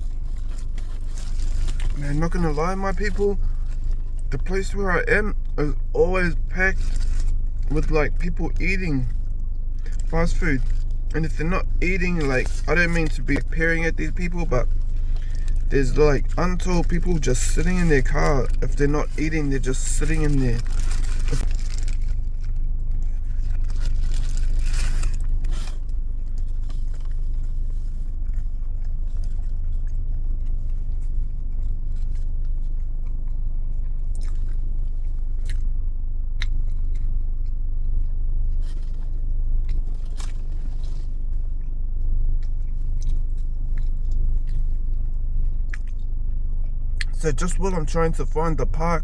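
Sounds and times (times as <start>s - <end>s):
person chewing and crunching food: 0.0s - 49.0s
steady low rumble: 0.0s - 49.0s.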